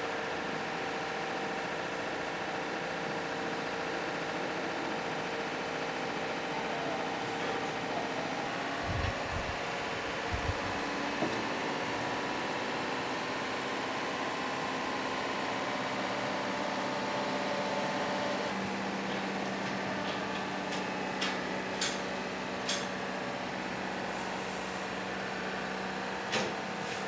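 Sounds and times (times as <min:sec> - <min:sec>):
crane engine running: 0:00.0 - 0:27.0.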